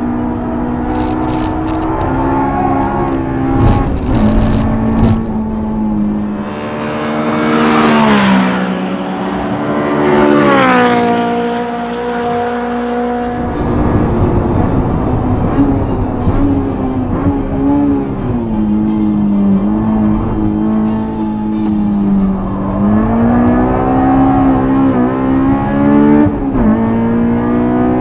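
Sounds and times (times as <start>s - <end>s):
high-revving car engine passing: 0.0s - 28.0s.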